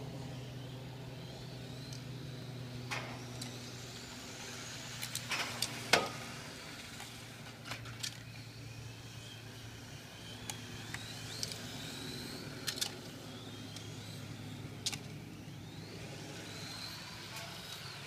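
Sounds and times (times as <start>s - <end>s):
rc cars high whine: 0.0s - 18.0s
steady low hum: 0.0s - 18.0s.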